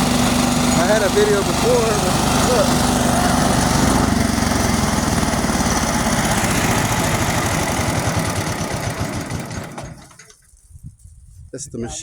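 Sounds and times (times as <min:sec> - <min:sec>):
harvesting machine engine running: 0:00.0 - 0:10.4.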